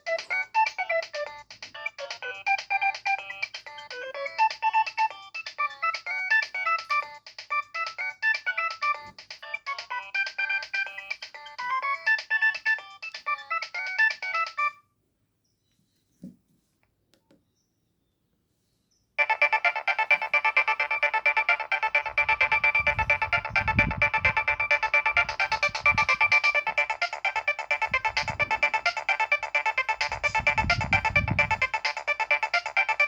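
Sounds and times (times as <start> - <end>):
dense ringtone of repeated notes: 0.0 - 14.8, 19.2 - 33.0
electronic ringtone melody: 0.0 - 14.8, 19.2 - 33.0.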